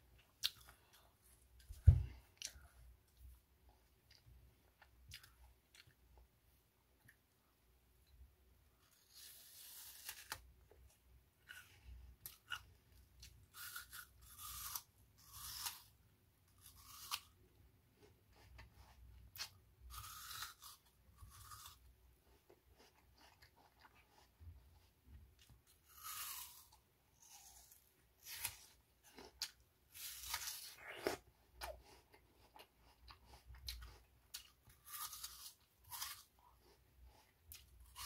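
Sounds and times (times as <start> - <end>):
person chewing crisp apple: 0.2 - 6.3, 8.7 - 38.0.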